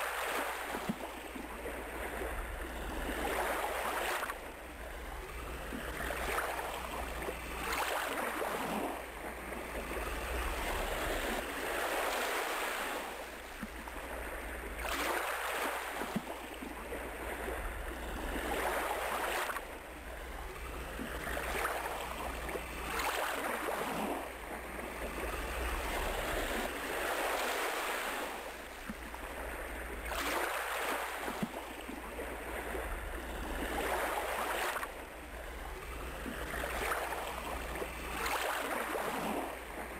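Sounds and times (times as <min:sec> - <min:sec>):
waves washing in and out: 0:00.0 - 0:39.9.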